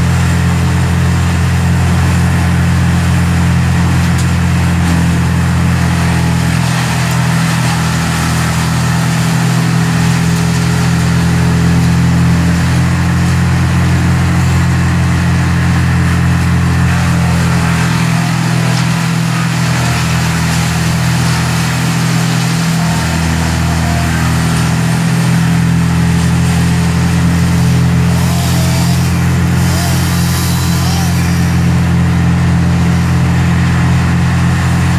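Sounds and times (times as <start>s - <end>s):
large engine humming steadily: 0.0s - 34.9s.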